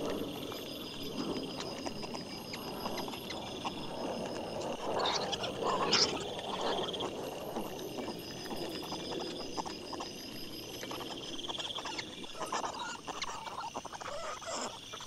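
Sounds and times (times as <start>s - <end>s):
animal calls: 0.0s - 15.0s.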